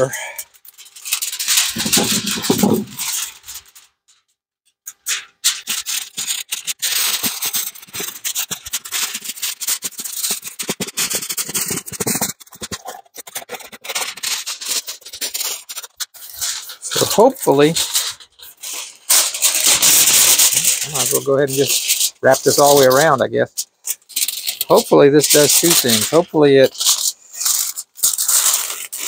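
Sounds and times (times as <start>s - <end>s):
aluminum foil crinkling: 0.0s - 4.2s, 4.9s - 29.0s.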